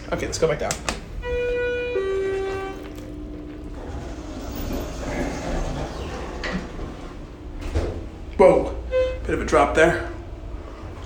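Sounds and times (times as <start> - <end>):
elevator low steady hum: 0.0 - 11.0.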